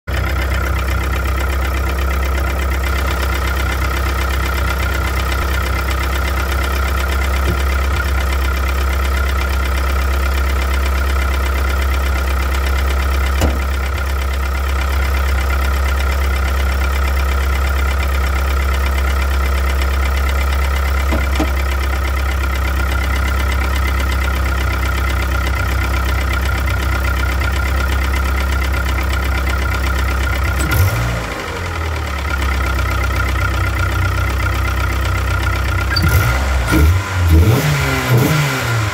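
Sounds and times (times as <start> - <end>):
engine running with knocking: 0.1 - 38.9.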